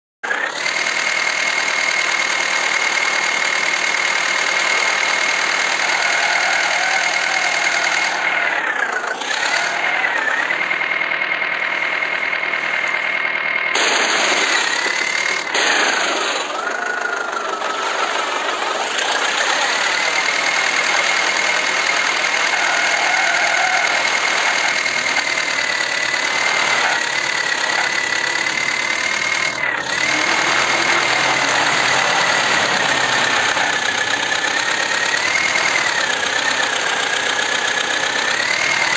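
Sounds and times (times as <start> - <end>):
tractor engine running with whine: 0.0 - 38.9.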